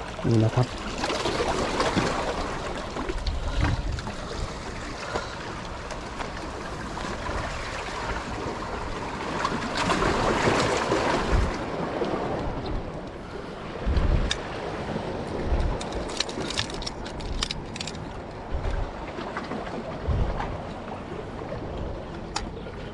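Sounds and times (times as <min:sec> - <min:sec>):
surf washing on shore: 0:00.0 - 0:22.9.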